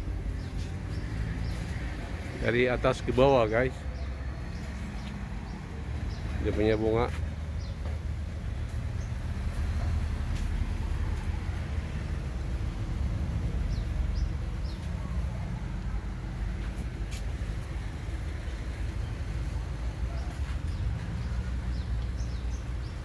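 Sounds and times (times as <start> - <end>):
small birds chirping: 0.0 - 23.0
steady low street rumble: 0.0 - 23.0.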